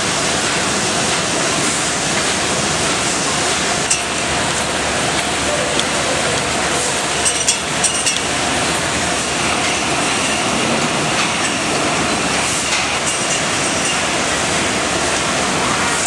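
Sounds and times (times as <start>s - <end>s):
conveyors and machines running: 0.0s - 16.0s.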